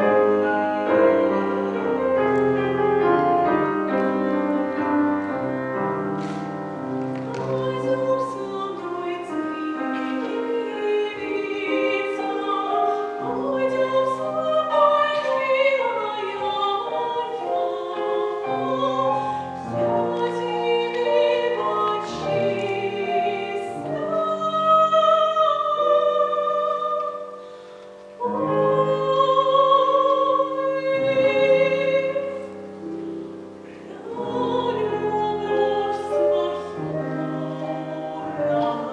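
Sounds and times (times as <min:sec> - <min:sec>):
person singing classical song: 0:00.0 - 0:38.9
piano accompaniment: 0:00.0 - 0:38.9.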